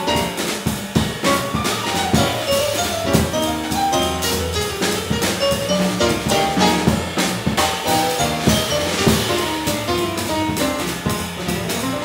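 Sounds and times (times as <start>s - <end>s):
drum kit with cymbals: 0.0s - 12.0s
stage piano: 0.0s - 12.0s.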